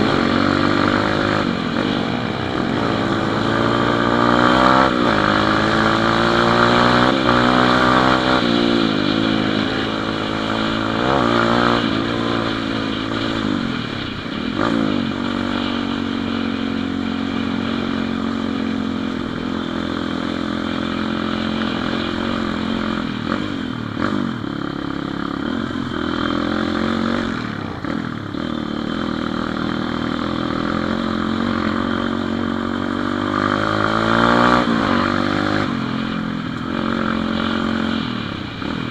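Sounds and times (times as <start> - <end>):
motorbike engine accelerating: 0.0 - 38.9.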